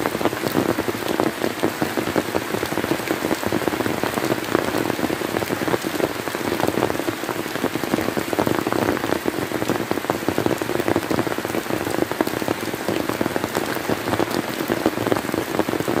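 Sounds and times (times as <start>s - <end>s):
raindrops ticking close by: 0.0s - 16.0s
steady rain falling: 0.0s - 16.0s.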